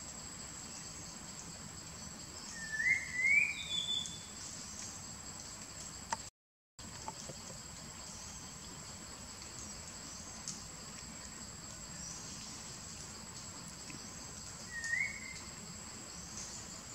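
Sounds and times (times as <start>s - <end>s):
insects droning: 0.0s - 16.9s.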